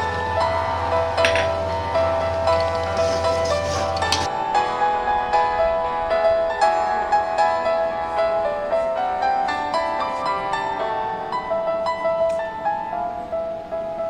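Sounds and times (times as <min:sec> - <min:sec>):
light piano melody: 0:00.0 - 0:14.0.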